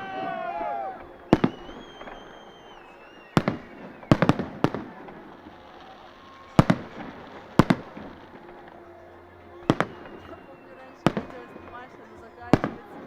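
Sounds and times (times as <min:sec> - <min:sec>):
faint fireworks crackling: 0:00.0 - 0:13.0
fireworks bangs: 0:00.0 - 0:13.0.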